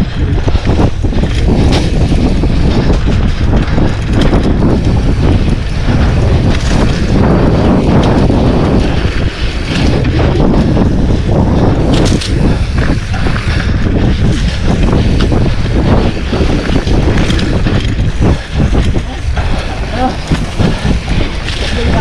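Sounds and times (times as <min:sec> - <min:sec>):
bike rattling over dirt trail: 0:00.0 - 0:22.0
wind buffeting microphone: 0:00.0 - 0:22.0.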